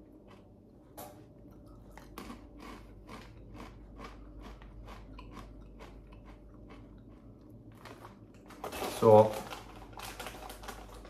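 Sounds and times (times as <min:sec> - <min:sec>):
person chewing crunchy chips: 0:00.0 - 0:11.0.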